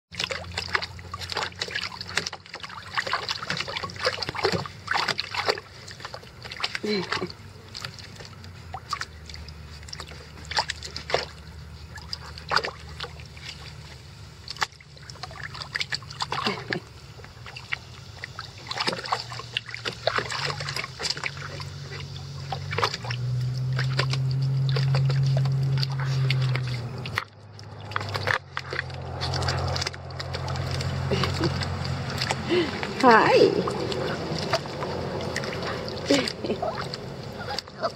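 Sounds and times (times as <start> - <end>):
low steady hum: 0.1 - 37.9
puppies splashing in water: 0.1 - 37.9.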